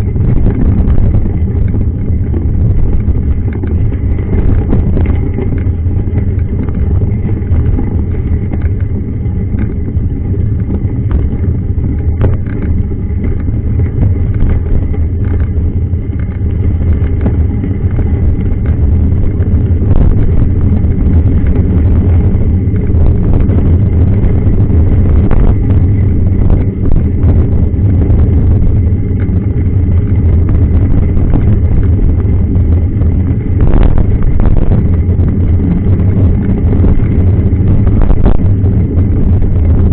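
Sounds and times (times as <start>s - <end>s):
bike clicks and rattles: 0.0s - 39.9s
wind and road noise: 0.0s - 39.9s.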